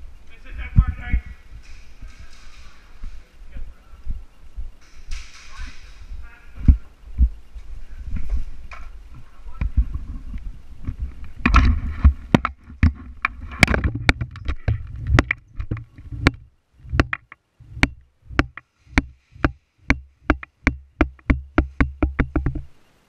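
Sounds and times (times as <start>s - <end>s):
rustling and clattering: 0.0s - 22.8s
running footsteps: 0.7s - 22.7s.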